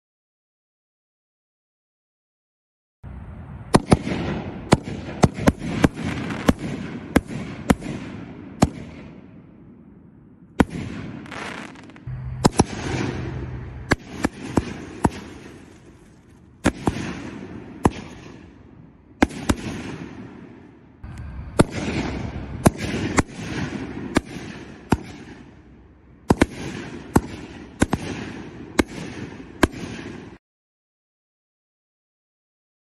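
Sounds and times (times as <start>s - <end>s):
firework bangs: 3.1s - 9.8s, 10.5s - 30.4s.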